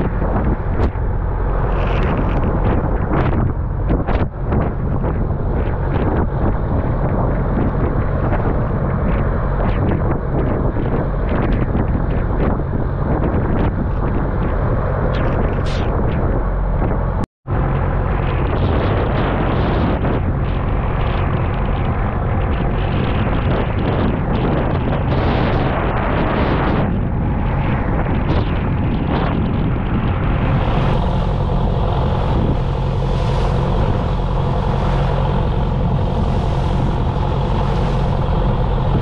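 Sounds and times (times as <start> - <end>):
boat diesel engine drone: 0.0 - 39.0
waves crashing against hull: 0.0 - 39.0
wind buffeting microphone: 0.0 - 39.0.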